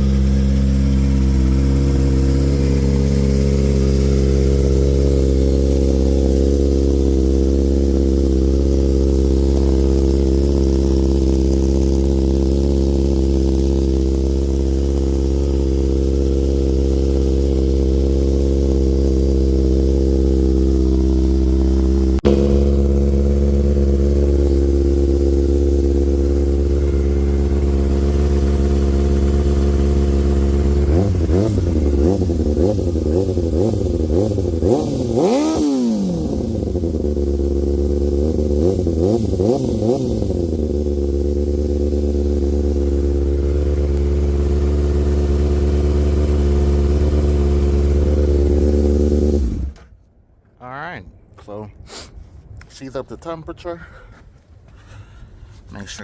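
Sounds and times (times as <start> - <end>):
motorcycle engine idling: 0.0 - 49.8.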